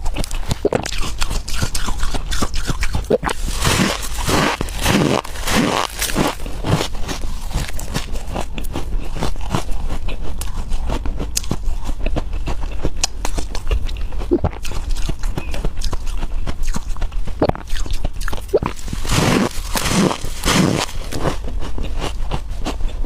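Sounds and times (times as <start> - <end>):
frost being chewed: 0.0 - 23.0.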